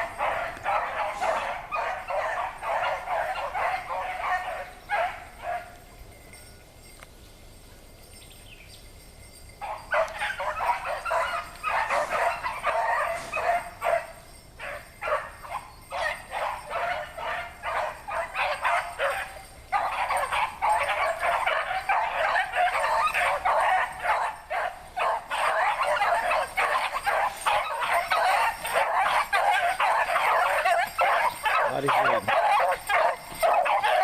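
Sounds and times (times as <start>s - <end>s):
hounds baying and yelping: 0.0s - 7.0s, 8.3s - 34.0s.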